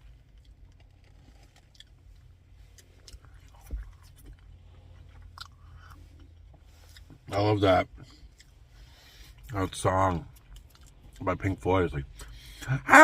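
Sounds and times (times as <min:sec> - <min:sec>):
chewing and mouth clicks: 0:00.1 - 0:07.3, 0:07.9 - 0:11.5.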